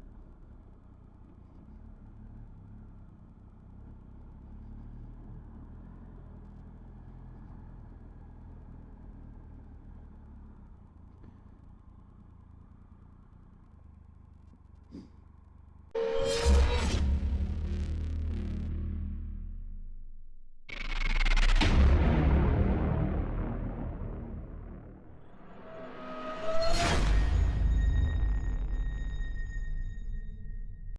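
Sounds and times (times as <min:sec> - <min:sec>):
motorcycle engine droning: 0:00.0 - 0:30.9.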